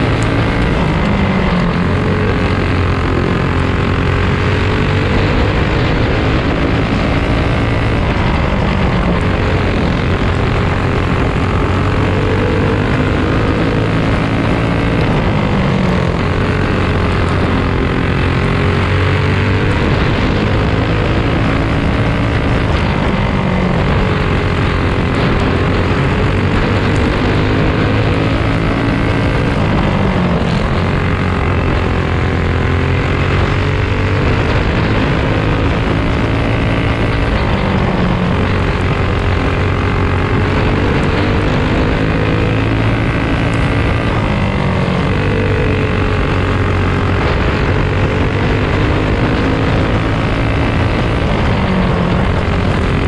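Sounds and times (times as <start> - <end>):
kart engine running hard: 0.0 - 53.0.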